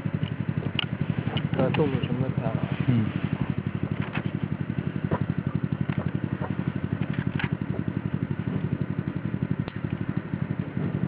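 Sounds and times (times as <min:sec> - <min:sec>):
machine running with low pulse: 0:00.0 - 0:11.0.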